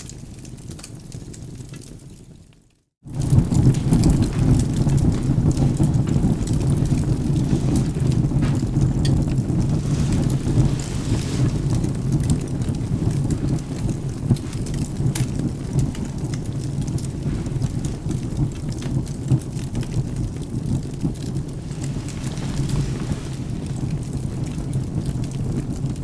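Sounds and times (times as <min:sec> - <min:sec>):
steady rain: 0:00.0 - 0:26.0
wood fire crackling and popping: 0:00.0 - 0:26.0
thunder rumbling: 0:03.1 - 0:26.0.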